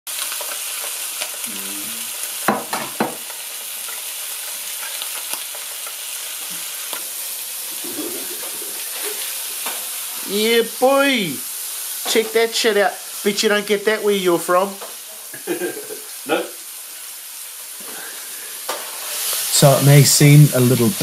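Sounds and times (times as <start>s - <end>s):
fish sizzling in a pan: 0.1s - 21.0s.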